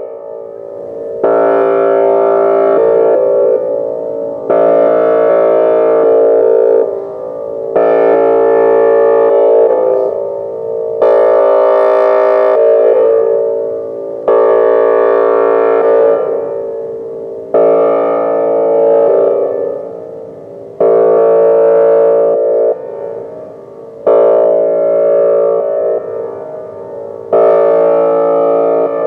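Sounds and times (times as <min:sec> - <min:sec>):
multi-tone warning siren: 0:00.0 - 0:29.0.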